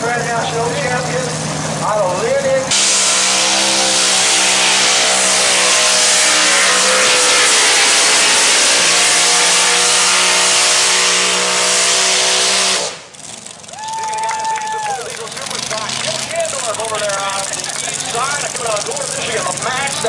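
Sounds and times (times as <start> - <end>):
dense rush of noise: 0.0 - 20.0
tractor engine at full throttle: 0.0 - 20.0.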